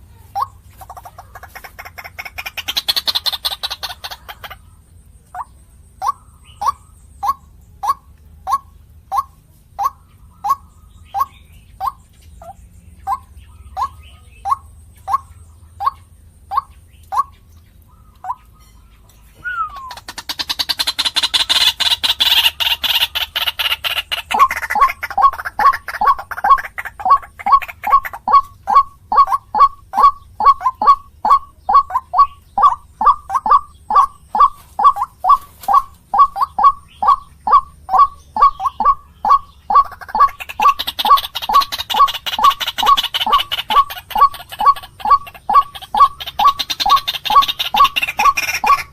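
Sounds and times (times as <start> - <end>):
waterhen calling: 0.0 - 48.9.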